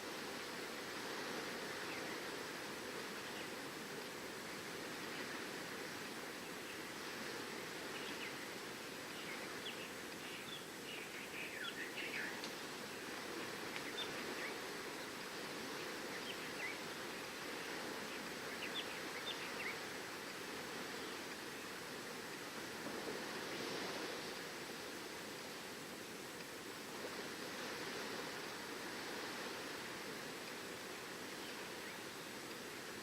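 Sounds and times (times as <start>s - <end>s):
waves on seashore: 0.0s - 33.0s.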